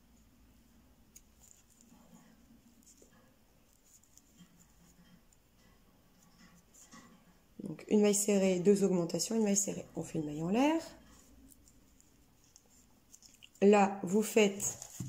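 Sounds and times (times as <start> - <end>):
faint yarn rustles: 0.0 - 15.0.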